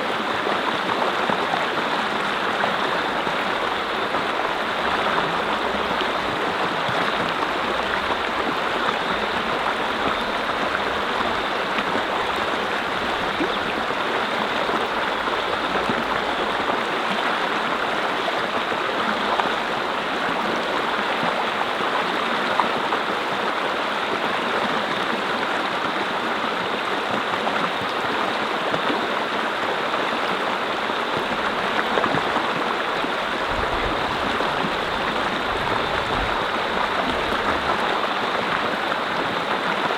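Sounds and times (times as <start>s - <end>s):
brook flowing over rocks: 0.0s - 39.9s.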